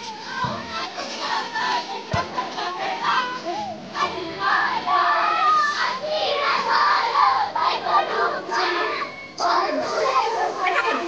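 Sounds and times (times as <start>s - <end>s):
children singing and shouting: 0.0s - 11.0s.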